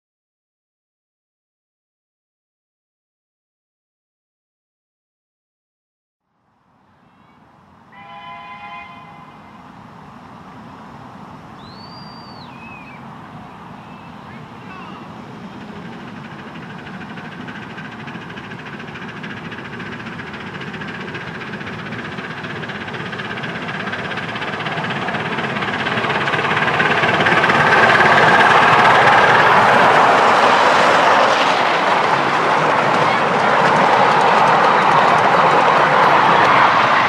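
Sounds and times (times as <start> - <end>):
miniature steam train passing: 6.6 - 37.0
train wheels on rails: 7.0 - 37.0.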